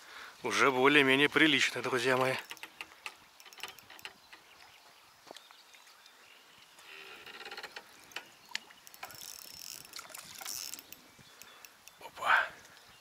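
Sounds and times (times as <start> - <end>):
faint clicks: 2.2 - 13.0.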